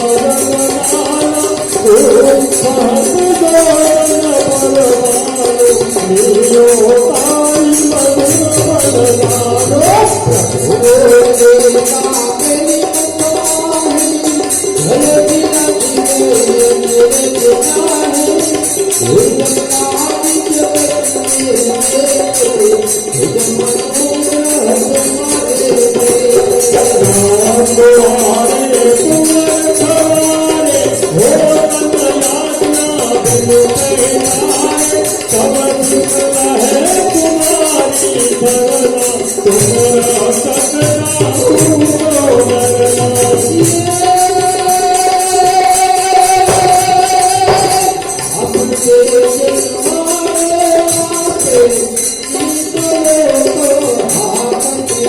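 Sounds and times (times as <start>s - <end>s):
devotional melody: 0.0s - 55.0s
jingling percussion: 0.0s - 55.0s.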